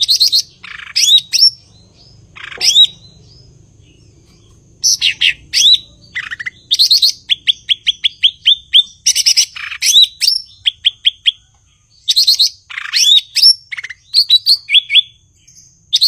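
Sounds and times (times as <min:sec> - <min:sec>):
bird chattering: 0:00.0 - 0:16.0.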